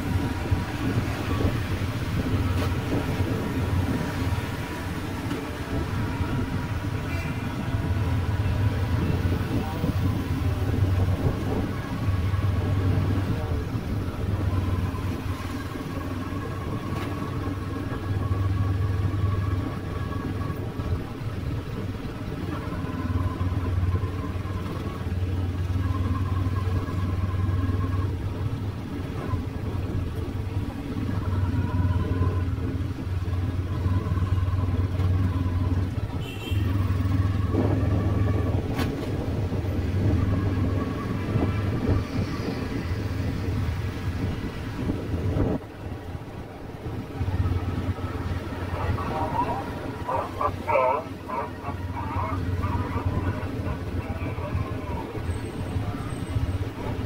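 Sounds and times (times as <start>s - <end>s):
motorbike traffic rumble: 0.0s - 57.0s.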